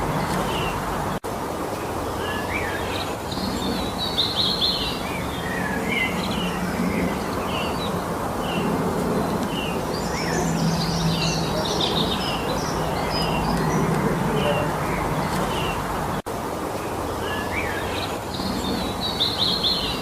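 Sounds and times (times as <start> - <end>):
songbirds chirping and trilling: 0.0 - 20.0
steady background hiss: 0.0 - 20.0.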